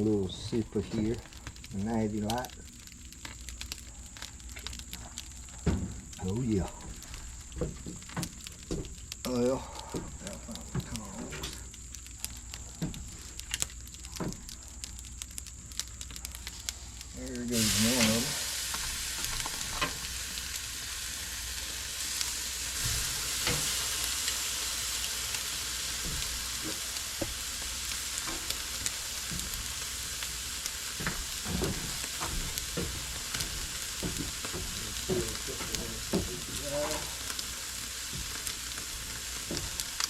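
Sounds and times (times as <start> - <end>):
fat popping and crackling: 0.0 - 40.0
steaks sizzling on grill: 0.0 - 40.0.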